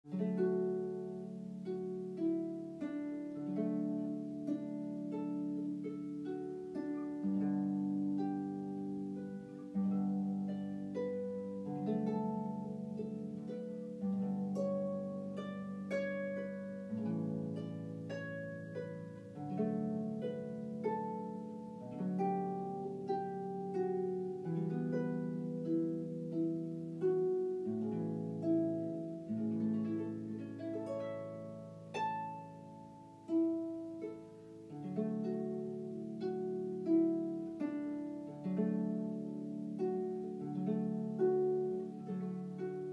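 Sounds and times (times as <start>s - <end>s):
solo harp music: 0.0s - 42.9s.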